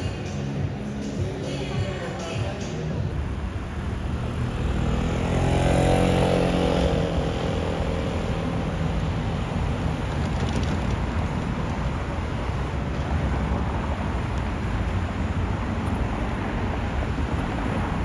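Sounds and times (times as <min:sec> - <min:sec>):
steady traffic noise: 0:00.0 - 0:18.0
motor vehicle passing: 0:02.9 - 0:18.0.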